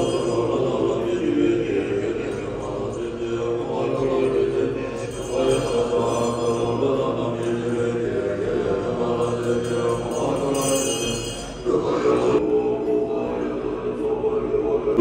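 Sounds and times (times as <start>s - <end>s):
monks chanting: 0.0s - 15.0s.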